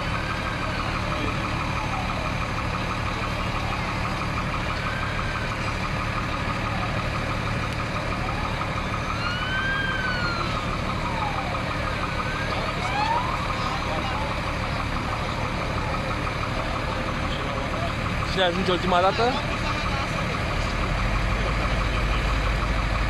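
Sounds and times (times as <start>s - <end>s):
emergency vehicle siren wailing: 0.0s - 23.0s
low engine drone: 0.0s - 23.0s.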